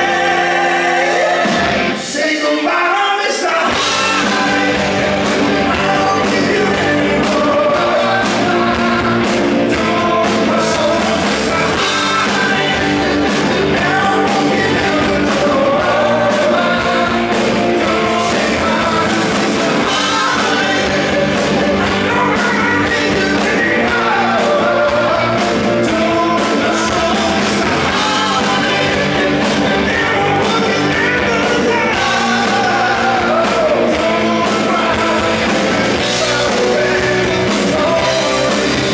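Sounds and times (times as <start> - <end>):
drums: 0.0 - 38.9
electric guitars: 0.0 - 38.9
male singer: 0.0 - 38.9
electric bass: 3.7 - 38.9.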